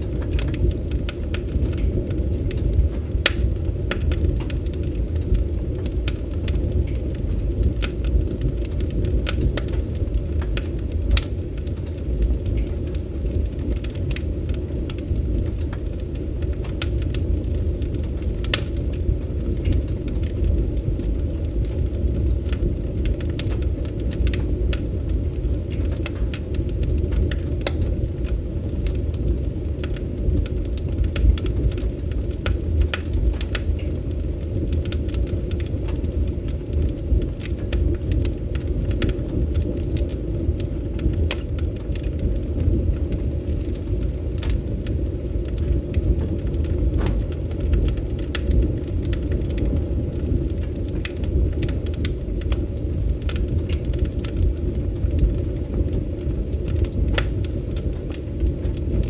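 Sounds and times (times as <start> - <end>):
fire crackling and popping: 0.0 - 59.0
fire flames roaring: 0.0 - 59.0.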